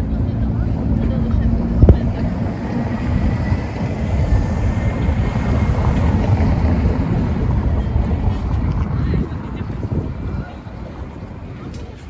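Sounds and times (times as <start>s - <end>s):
low rumble of passing traffic: 0.0s - 12.0s.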